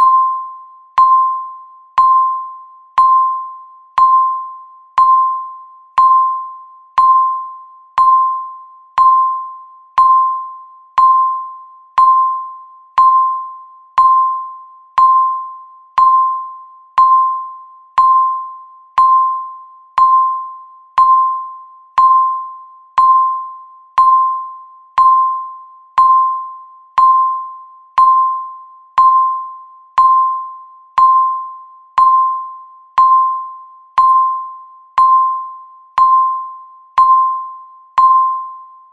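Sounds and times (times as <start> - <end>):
countdown timer beeping: 0.0 - 38.9.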